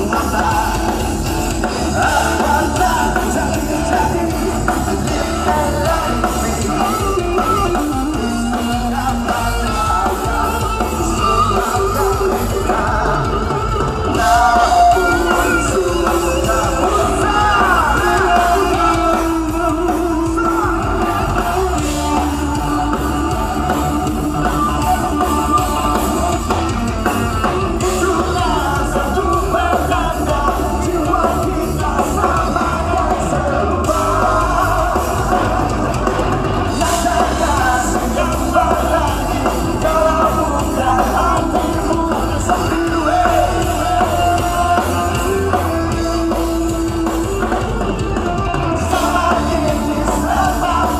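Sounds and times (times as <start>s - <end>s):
live rock band playing: 0.0s - 50.9s
person singing: 0.0s - 50.9s.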